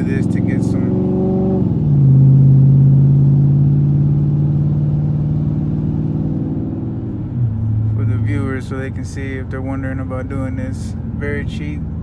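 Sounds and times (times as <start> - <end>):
car exhaust accelerating: 0.0 - 12.0.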